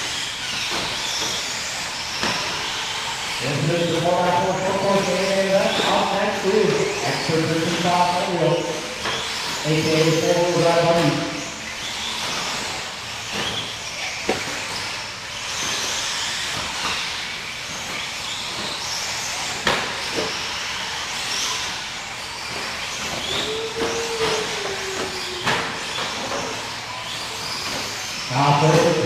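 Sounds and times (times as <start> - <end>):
toy car motors whining: 0.0 - 29.0.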